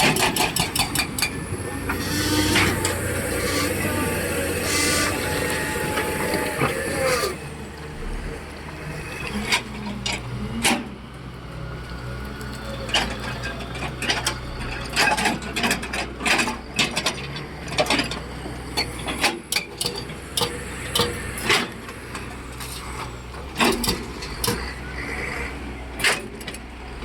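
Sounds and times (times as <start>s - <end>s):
heavy diesel machinery running: 0.0s - 27.0s.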